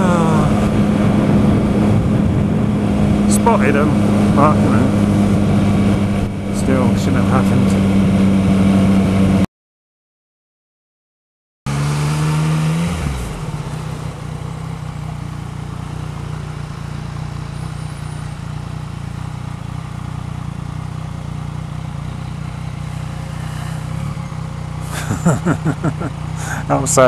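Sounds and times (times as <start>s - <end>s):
motorcycle engine at low revs: 0.0s - 9.5s, 11.7s - 27.0s.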